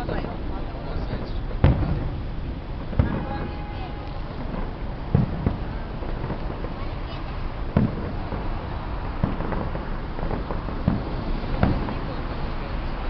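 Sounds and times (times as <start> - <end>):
fireworks bangs: 0.0 - 13.0
steady background noise: 0.0 - 13.0.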